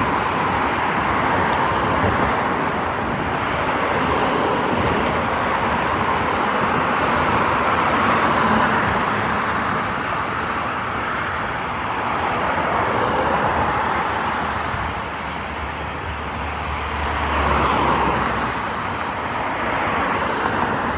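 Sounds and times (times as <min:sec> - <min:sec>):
road traffic passing: 0:00.0 - 0:20.9.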